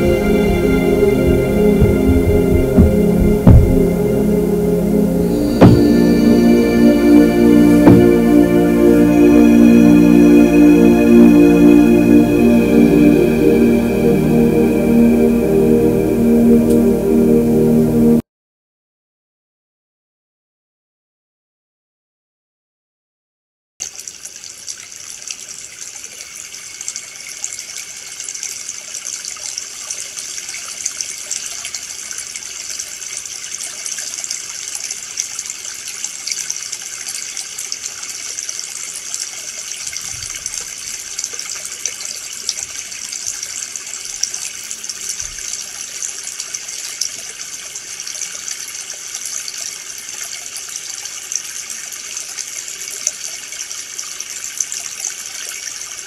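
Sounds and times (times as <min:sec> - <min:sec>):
stream water trickling: 0:00.0 - 0:16.0, 0:23.8 - 0:56.0.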